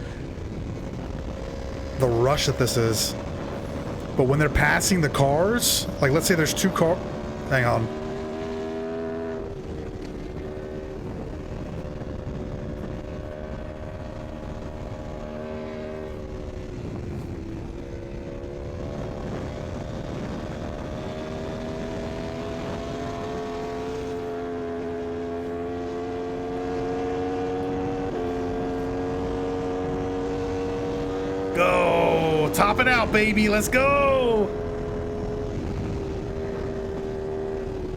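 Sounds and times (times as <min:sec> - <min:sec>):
motorcycle engine at high speed: 0:00.0 - 0:02.1, 0:03.0 - 0:32.3, 0:34.4 - 0:37.9
wind and road rush: 0:00.0 - 0:31.6, 0:32.2 - 0:37.9.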